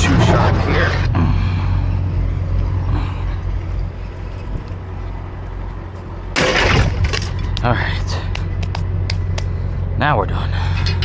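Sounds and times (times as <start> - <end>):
vehicle engine idling: 1.0 - 10.0.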